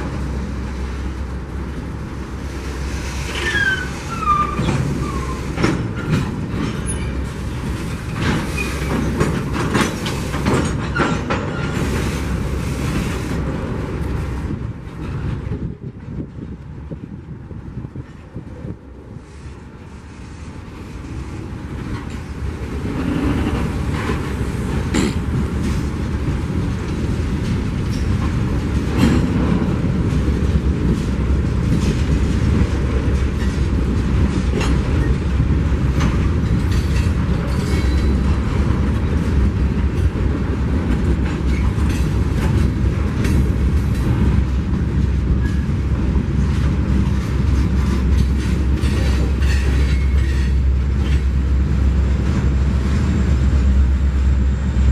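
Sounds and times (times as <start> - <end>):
train rumble: 0.0 - 54.9
train wheels clacking over rail joints: 2.8 - 16.5, 20.8 - 53.2.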